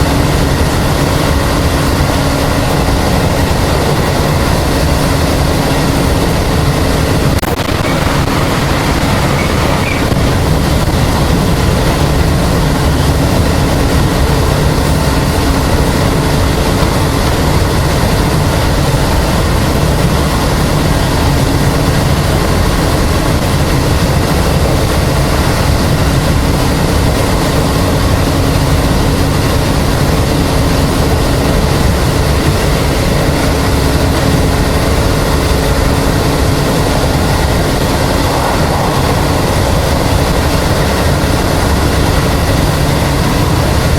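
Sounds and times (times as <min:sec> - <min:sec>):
train motor and gear hum: 0:00.0 - 0:43.9
wheel-on-rail rumble: 0:00.0 - 0:43.9.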